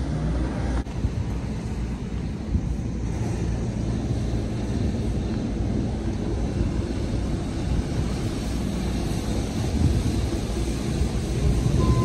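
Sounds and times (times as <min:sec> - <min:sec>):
wind buffeting microphone: 0:00.5 - 0:12.0.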